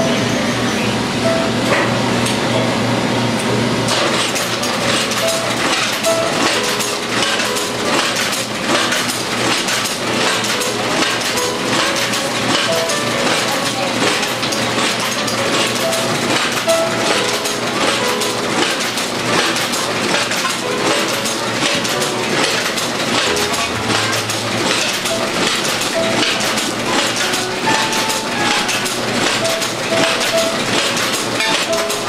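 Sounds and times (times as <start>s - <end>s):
machine clattering clicks: 3.9s - 32.0s.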